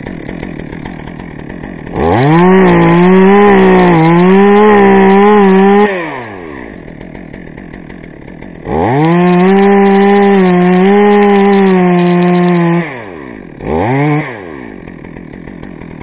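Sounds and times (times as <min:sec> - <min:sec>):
two-stroke chainsaw revving: 0:00.0 - 0:16.0.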